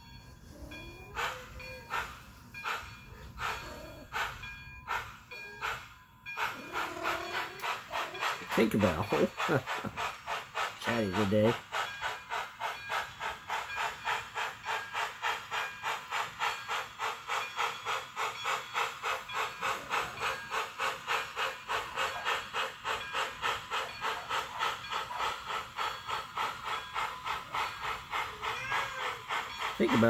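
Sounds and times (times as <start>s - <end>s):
steam locomotive exhaust chuffs: 0.0s - 30.0s.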